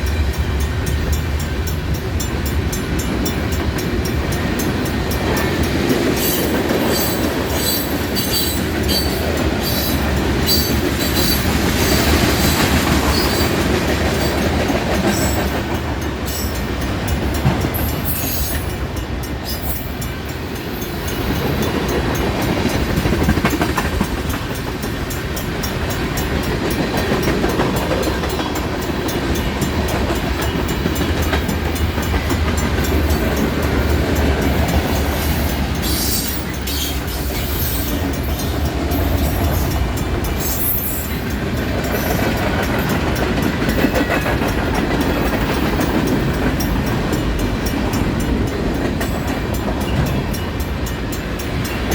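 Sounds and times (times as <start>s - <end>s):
freight train rumbling past: 0.0s - 51.9s
wheels clacking over rails: 0.0s - 51.9s.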